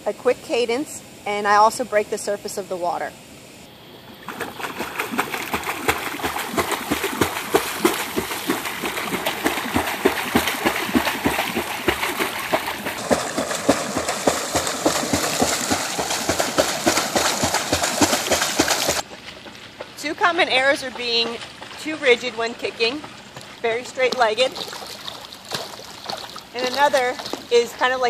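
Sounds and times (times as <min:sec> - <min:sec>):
feet splashing in pool water: 0:04.0 - 0:28.0.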